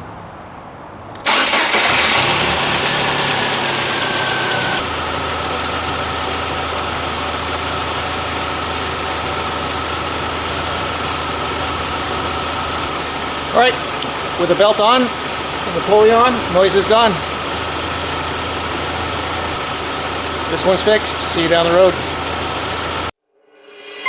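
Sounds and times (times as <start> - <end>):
car engine starting and idling: 1.1 - 23.1.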